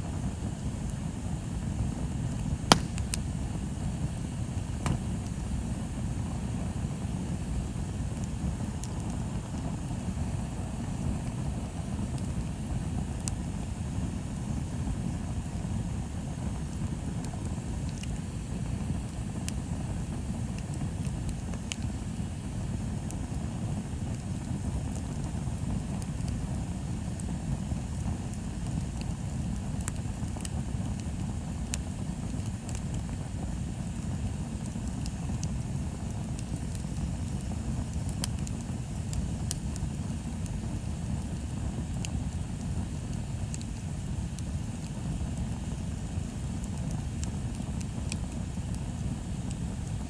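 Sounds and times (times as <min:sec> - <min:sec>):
bonfire crackles and pops: 0:00.0 - 0:50.0
fire low rumble: 0:00.0 - 0:50.0.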